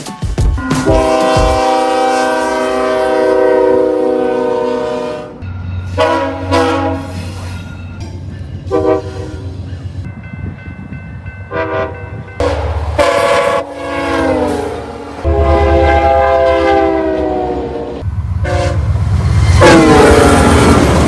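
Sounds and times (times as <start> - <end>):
train horn blasts: 0.8 - 7.8, 8.6 - 9.7, 11.5 - 18.9, 19.5 - 21.0.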